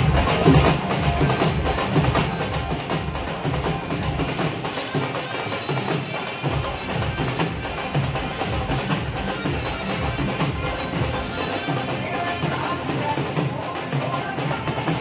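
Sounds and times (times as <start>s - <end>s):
dhol drums beating: 0.0s - 15.0s.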